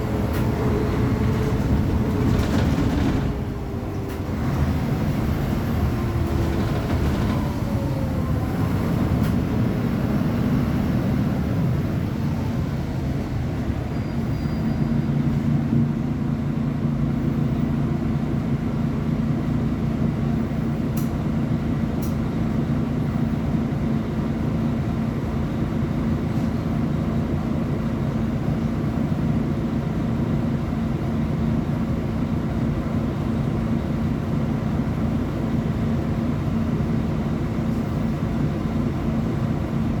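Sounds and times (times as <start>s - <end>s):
bus engine rumbling: 0.0s - 40.0s.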